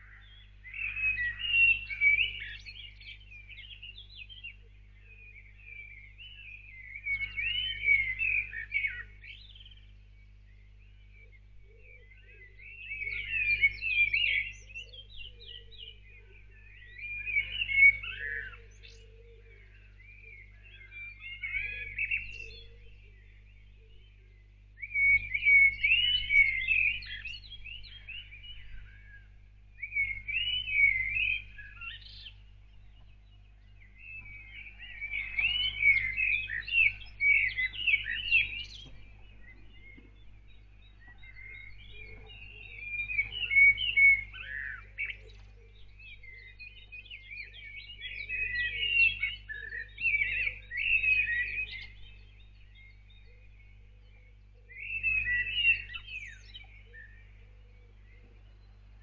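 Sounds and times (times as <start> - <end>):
steady low hum: 0.0 - 48.7, 51.7 - 59.0
songbird warbling: 0.0 - 59.0.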